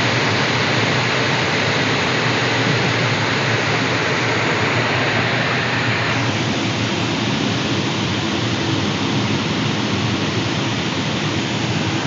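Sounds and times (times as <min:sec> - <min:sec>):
air rushing past cockpit: 0:00.0 - 0:12.0.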